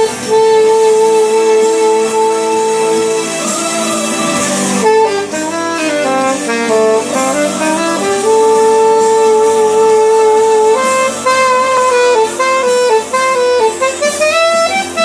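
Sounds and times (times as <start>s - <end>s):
alto saxophone slow melody: 0.0s - 15.0s.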